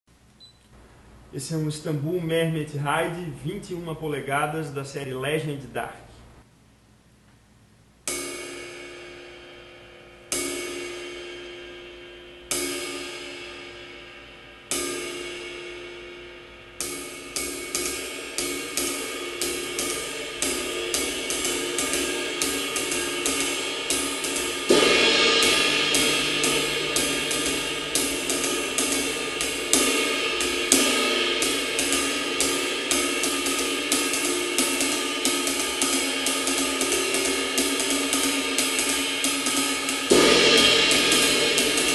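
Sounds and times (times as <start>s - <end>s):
ride cymbal ringing: 8.1s - 41.9s.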